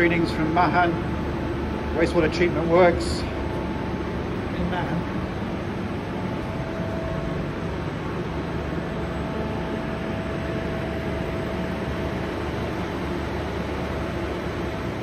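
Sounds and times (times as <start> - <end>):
faint steady whine: 0.0 - 15.0
machinery low hum: 0.0 - 15.0.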